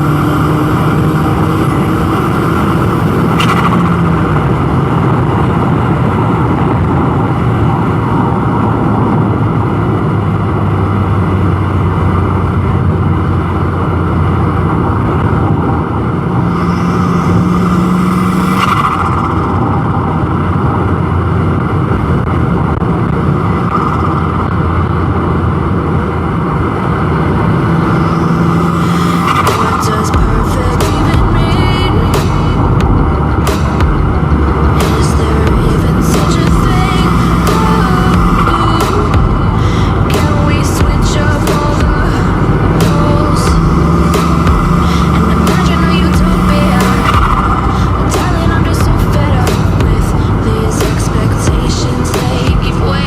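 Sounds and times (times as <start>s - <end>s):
car engine droning: 0.0s - 53.0s.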